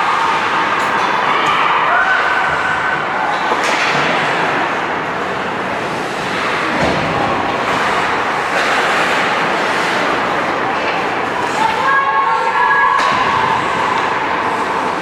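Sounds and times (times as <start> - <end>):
faint voices: 0.0 - 15.0
ice hockey game in a rink: 0.0 - 15.0.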